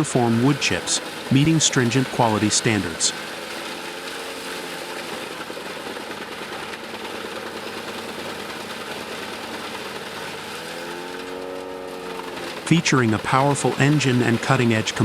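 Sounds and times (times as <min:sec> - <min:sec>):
wood chipper running: 0:00.0 - 0:15.0.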